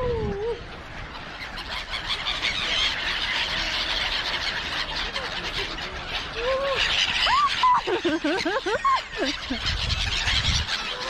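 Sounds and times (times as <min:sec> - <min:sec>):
flock of gulls calling: 0:00.0 - 0:11.0.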